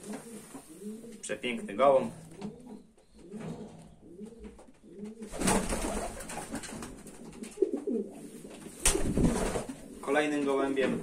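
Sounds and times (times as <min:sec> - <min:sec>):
pigeons cooing: 0:00.0 - 0:10.3.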